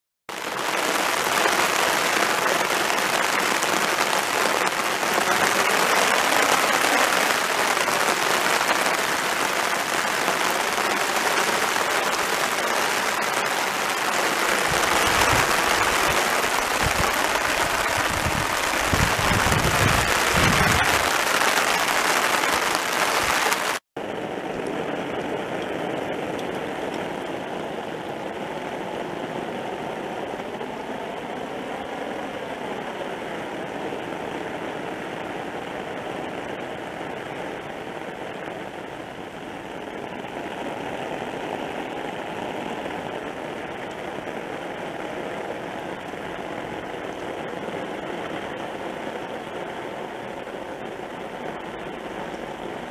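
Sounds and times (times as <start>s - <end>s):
heavy rain on pavement: 0.3s - 52.9s.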